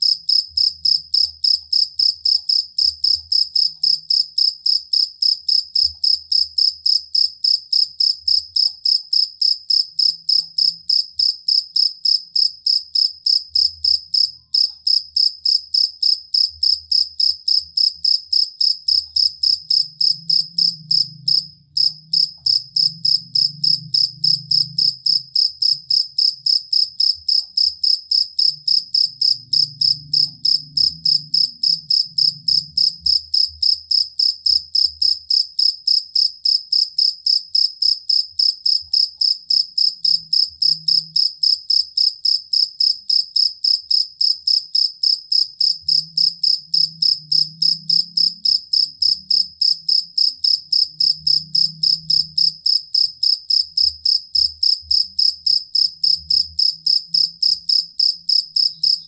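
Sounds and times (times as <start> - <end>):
field cricket chirping: 0.0 - 59.0.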